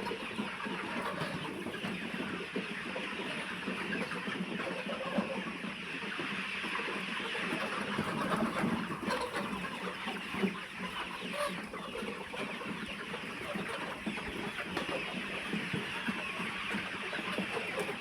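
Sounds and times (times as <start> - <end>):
flock of chickens clucking: 0.0 - 18.0.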